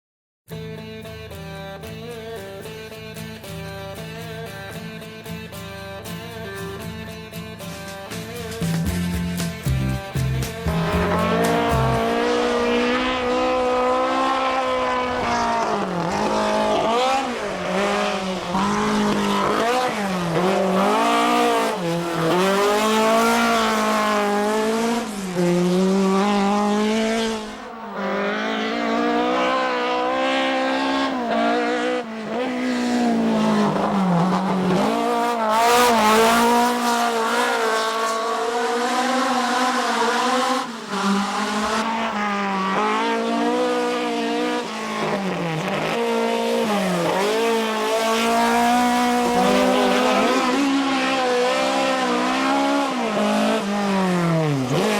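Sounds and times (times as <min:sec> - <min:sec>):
racing car engine revving: 0:08.6 - 0:54.9.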